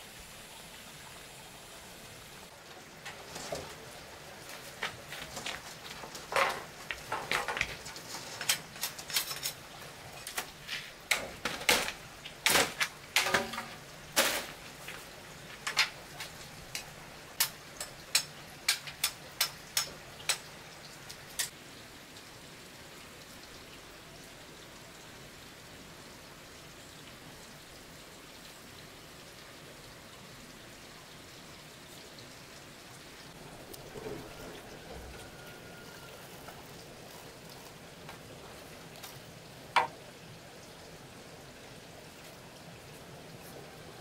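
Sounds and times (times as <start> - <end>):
faint steady hiss: 0.0 - 44.0.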